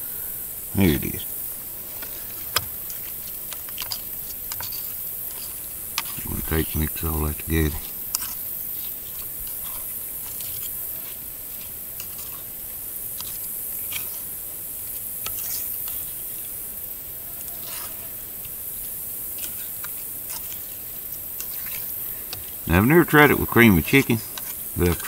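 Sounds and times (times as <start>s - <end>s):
steady high hiss: 0.0s - 25.0s
fork scraping skillet: 1.0s - 16.7s, 17.4s - 25.0s.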